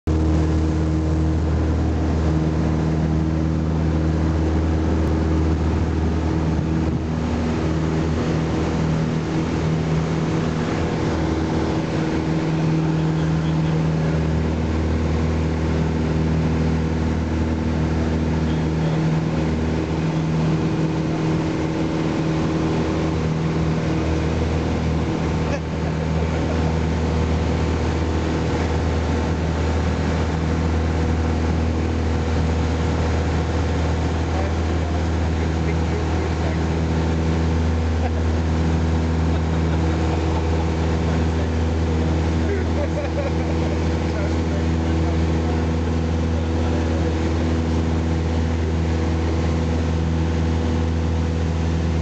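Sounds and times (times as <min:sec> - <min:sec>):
aircraft engine and propeller drone: 0:00.0 - 0:52.0.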